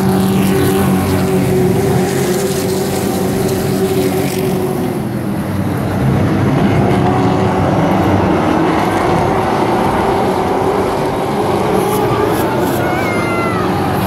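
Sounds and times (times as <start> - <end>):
racing truck engines droning: 0.0 - 14.0.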